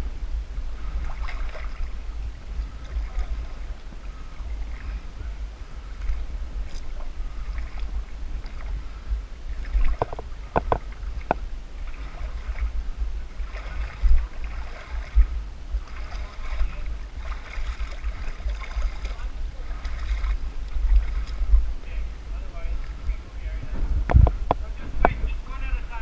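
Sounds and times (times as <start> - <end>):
low rumble on microphone: 0.0 - 26.0
muddy water sloshing and splashing: 0.7 - 23.5.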